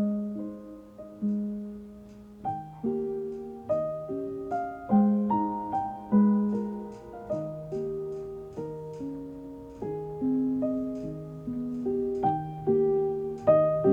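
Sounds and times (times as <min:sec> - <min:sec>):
gentle solo piano piece: 0:00.0 - 0:13.9.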